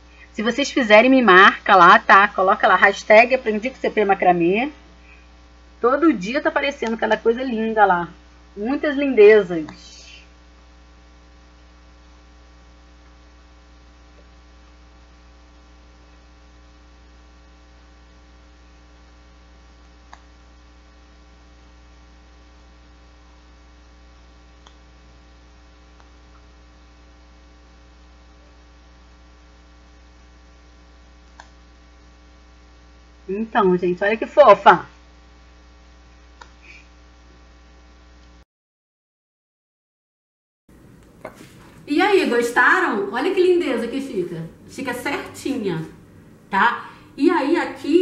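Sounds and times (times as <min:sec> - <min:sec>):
electrical mains hum: 0:00.0 - 0:38.4, 0:40.7 - 0:48.0.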